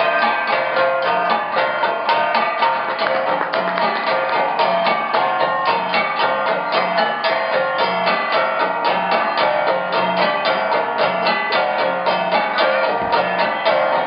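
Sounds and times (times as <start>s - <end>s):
music with quick beat: 0.0s - 14.0s.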